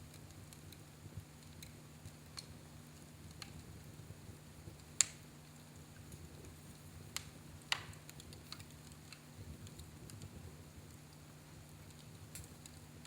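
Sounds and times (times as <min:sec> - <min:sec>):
fireplace fire crackling: 0:00.0 - 0:13.0
low steady hum: 0:00.0 - 0:13.0.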